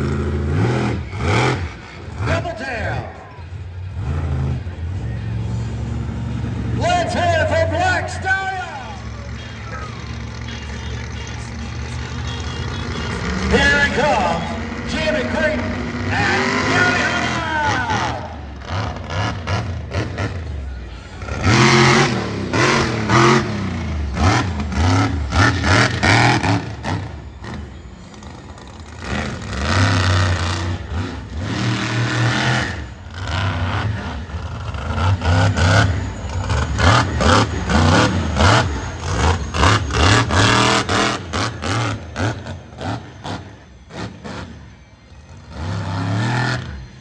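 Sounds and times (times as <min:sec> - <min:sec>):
monster truck engine revving: 0:00.0 - 0:47.0.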